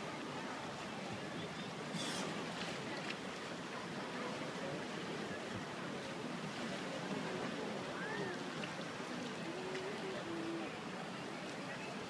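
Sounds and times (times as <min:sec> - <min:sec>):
rushing sea water: 0:00.0 - 0:12.0.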